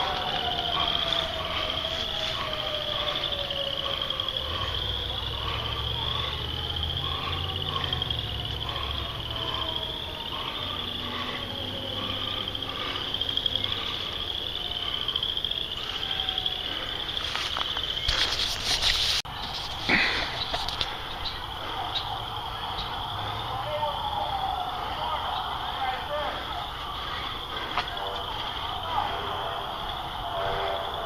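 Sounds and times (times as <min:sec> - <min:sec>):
distant siren: 0:00.0 - 0:31.0
insects buzzing: 0:00.0 - 0:31.0.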